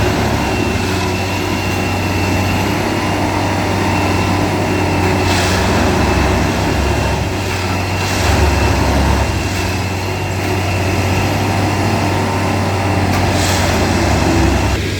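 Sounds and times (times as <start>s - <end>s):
heavy engine droning: 0.0s - 14.9s
hissing bursts: 0.0s - 14.9s.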